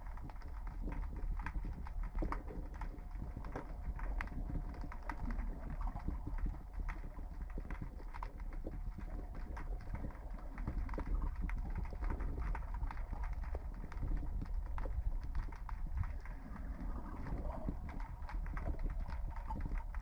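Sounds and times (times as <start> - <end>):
steady low rumble: 0.0 - 20.0
underwater clicking and crackling: 0.0 - 20.0.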